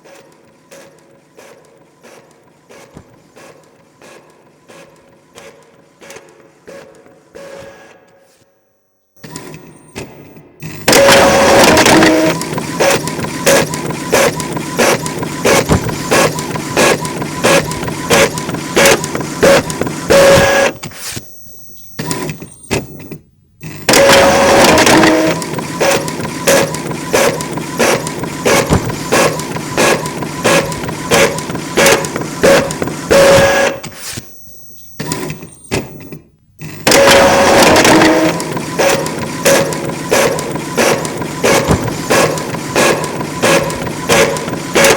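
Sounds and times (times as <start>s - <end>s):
printer whine and hum: 0.0s - 8.6s, 9.2s - 44.9s.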